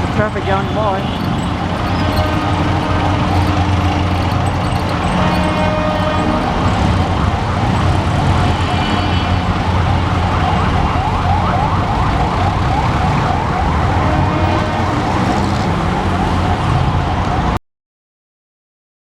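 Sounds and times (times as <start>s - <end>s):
low traffic engine rumble: 0.0s - 17.4s
vehicle siren yelping: 0.0s - 17.6s.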